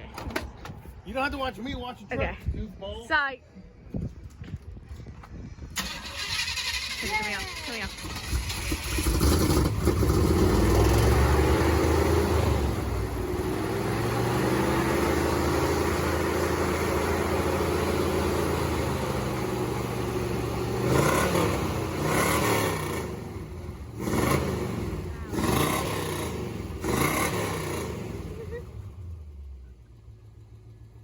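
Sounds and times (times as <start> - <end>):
pickup engine idling and revving: 5.8 - 31.0.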